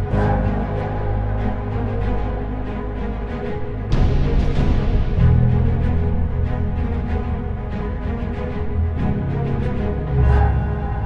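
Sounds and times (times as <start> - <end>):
background music with low tones: 0.0 - 11.0.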